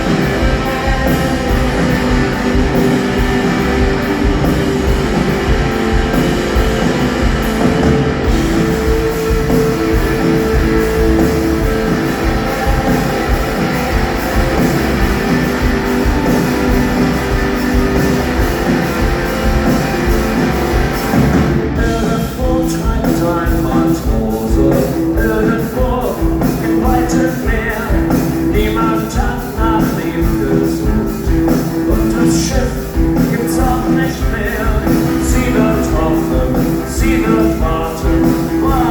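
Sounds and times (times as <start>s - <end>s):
person singing: 0.0s - 5.9s, 8.3s - 18.0s, 21.8s - 38.9s
drums: 0.0s - 38.9s
electric guitars: 0.0s - 38.9s
live rock band: 0.0s - 38.9s.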